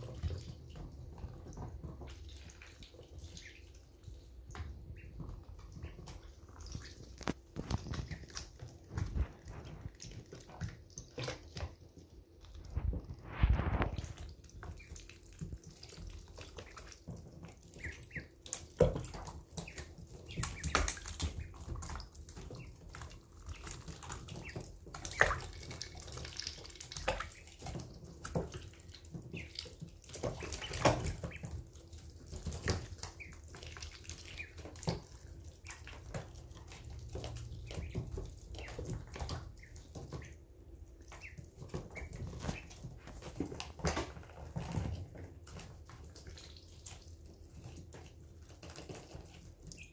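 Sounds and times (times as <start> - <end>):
ducklings splashing in water: 0.0 - 49.9.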